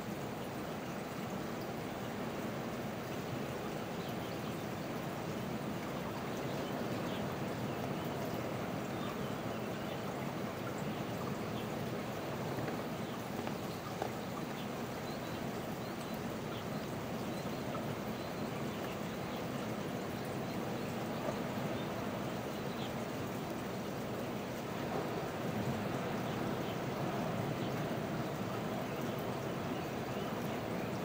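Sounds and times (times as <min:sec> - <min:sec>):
running water: 0:00.0 - 0:31.0.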